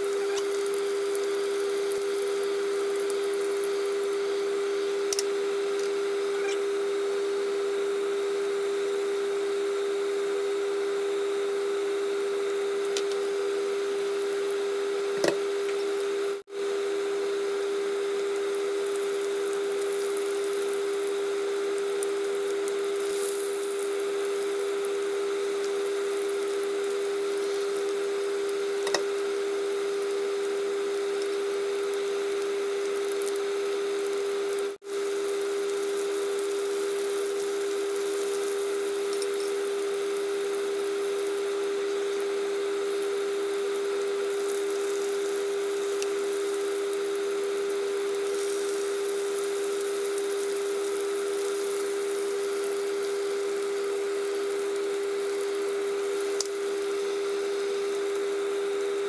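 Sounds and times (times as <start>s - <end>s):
chicken frying in oil: 0.0s - 59.0s.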